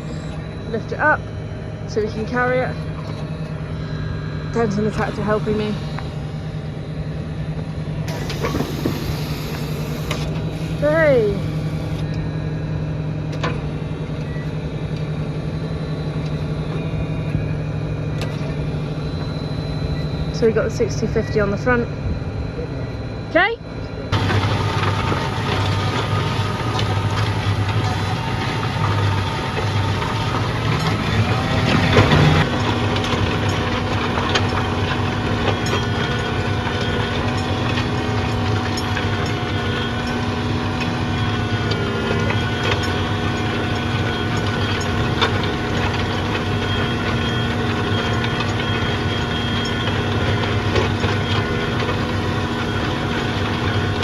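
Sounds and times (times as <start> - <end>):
tractor diesel engine running: 0.0 - 21.0, 24.1 - 54.0.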